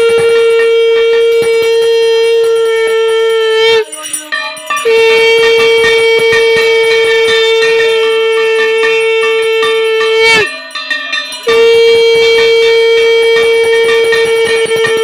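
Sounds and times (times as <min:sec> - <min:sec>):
conch shell blasts: 0:00.0 - 0:15.0
hand bell ringing: 0:00.0 - 0:15.0.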